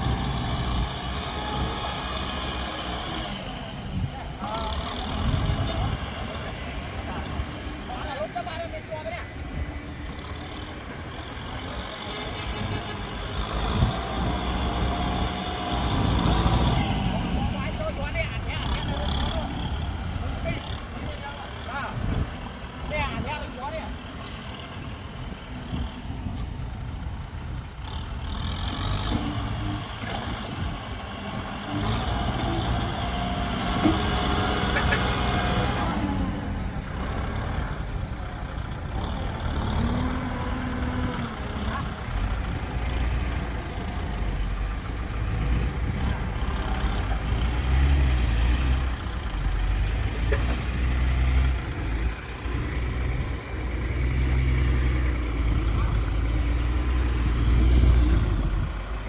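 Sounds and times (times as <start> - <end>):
heavy vehicle engines running: 0.0 - 59.0.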